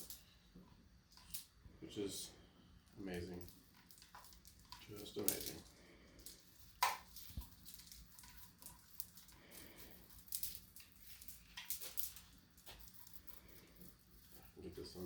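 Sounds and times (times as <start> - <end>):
cable and packaging rustling: 2.9 - 15.0.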